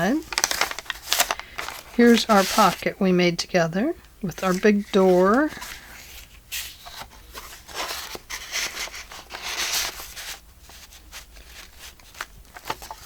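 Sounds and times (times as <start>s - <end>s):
paper pages rustling: 0.0s - 2.9s, 4.3s - 13.0s.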